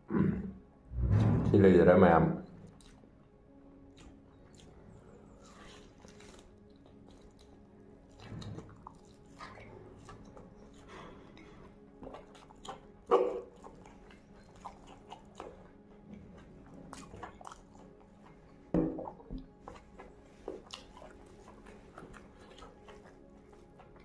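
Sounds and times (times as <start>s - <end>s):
wet chewing with mouth clicks: 2.6s - 3.1s, 3.8s - 24.0s.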